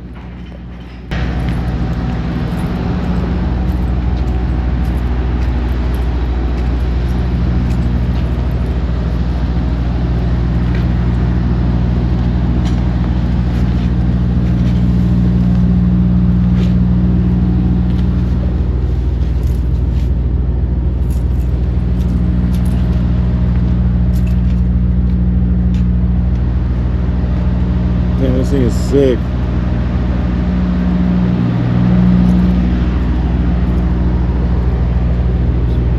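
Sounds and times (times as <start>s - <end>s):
vehicle engine running steadily: 0.0s - 35.9s.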